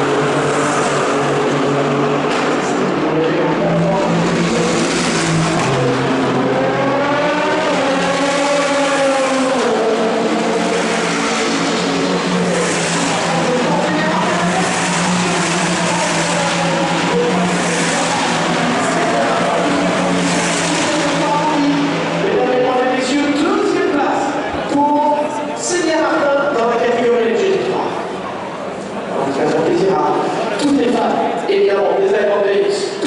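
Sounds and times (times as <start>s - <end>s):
race cars passing at speed: 0.0s - 33.0s.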